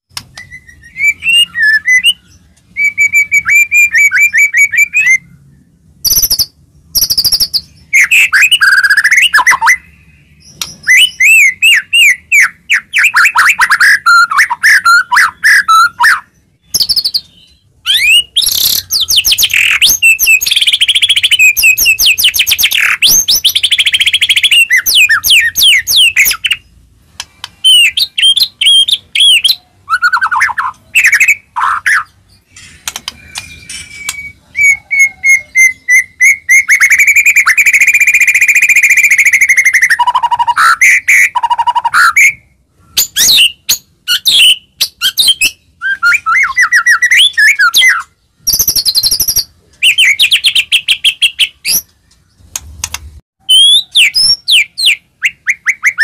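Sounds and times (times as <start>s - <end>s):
bird singing varied whistles: 0.2s - 5.3s, 6.0s - 26.6s, 33.1s - 51.9s, 53.4s - 56.0s.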